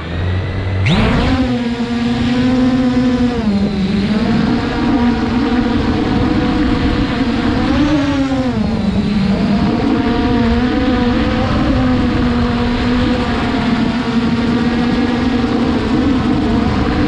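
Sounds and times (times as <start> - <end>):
drone propellers humming: 0.0 - 17.0
wind noise on microphone: 0.0 - 17.0.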